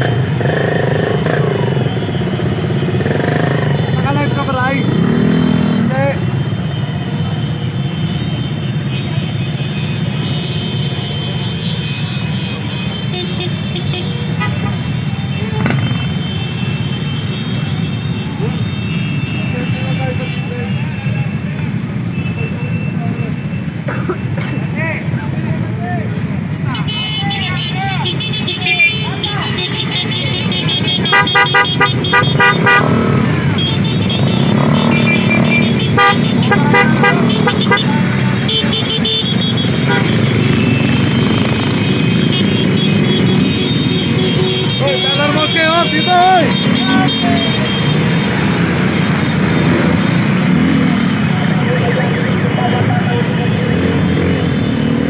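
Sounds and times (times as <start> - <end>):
many motorcycle engines running: 0.0 - 55.0.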